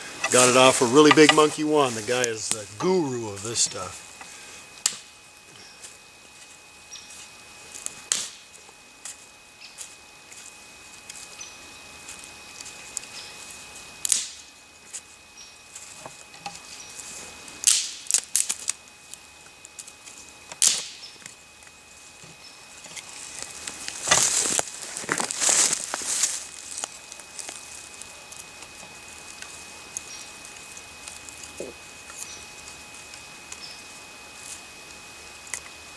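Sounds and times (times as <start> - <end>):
twigs snapping and crackling: 0.2 - 5.5, 6.9 - 11.4, 12.0 - 15.0, 15.7 - 33.8.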